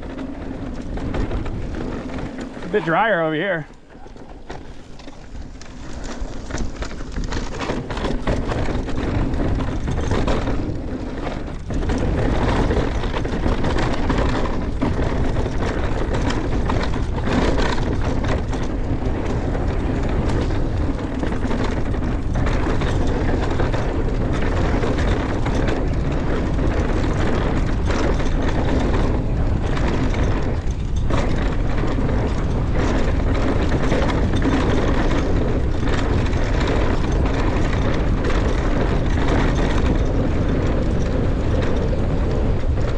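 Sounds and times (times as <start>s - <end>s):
bike knocking and rattling: 0.0s - 42.9s
tyres on rocky dirt: 0.0s - 42.9s
wind rushing over microphone: 0.0s - 42.9s.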